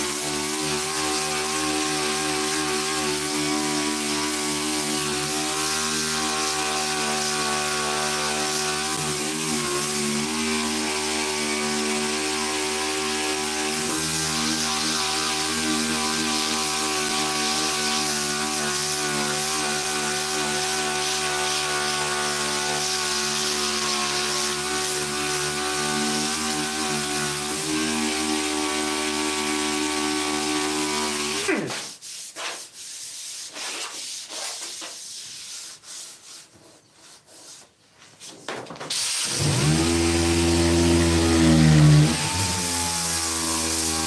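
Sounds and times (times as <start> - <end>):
sander running: 0.0 - 31.7, 39.2 - 44.0.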